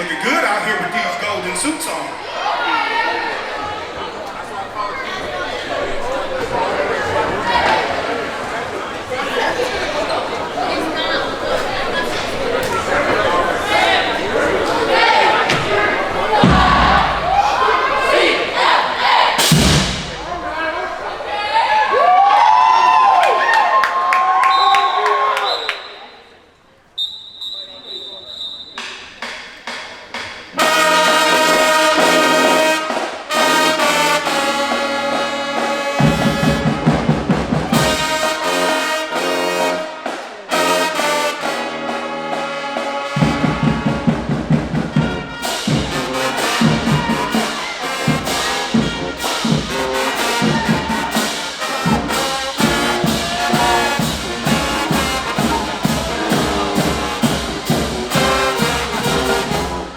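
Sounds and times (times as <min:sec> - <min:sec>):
brass chords: 0:00.0 - 0:21.6, 0:30.5 - 0:59.9
marching band playing: 0:00.4 - 0:21.6, 0:28.8 - 0:59.9
drums pounding: 0:03.4 - 0:21.3, 0:28.8 - 0:59.9.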